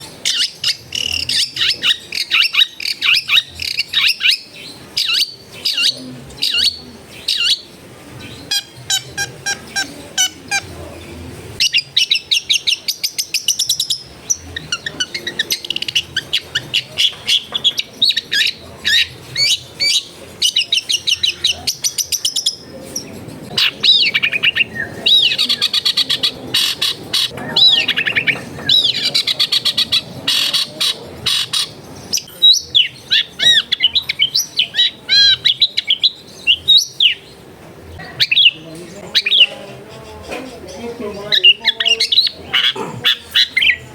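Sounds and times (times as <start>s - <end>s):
bird singing chattering trills: 0.0s - 43.9s.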